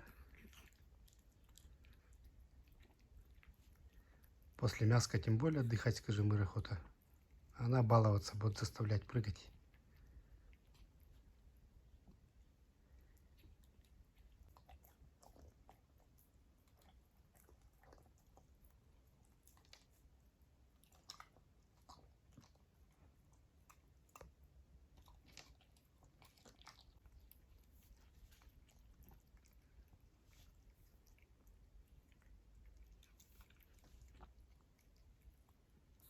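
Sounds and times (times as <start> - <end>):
pet chewing meat: 0.0 - 36.0.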